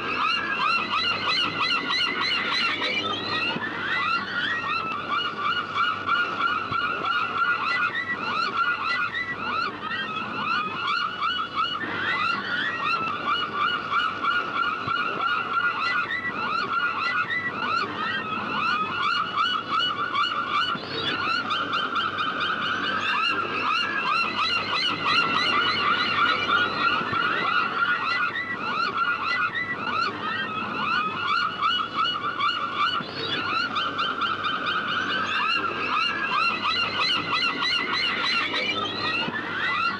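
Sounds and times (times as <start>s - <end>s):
seagulls calling: 0.0s - 39.9s.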